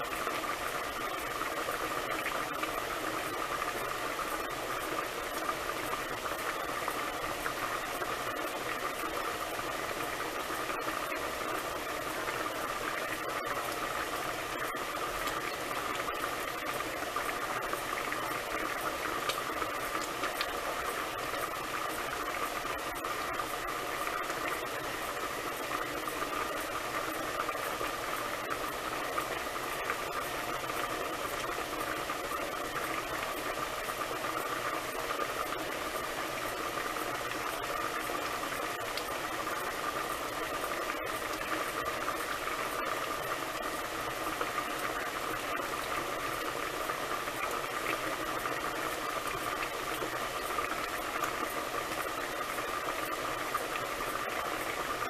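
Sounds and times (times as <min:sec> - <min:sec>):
pot boiling and bubbling: 0:00.0 - 0:55.0.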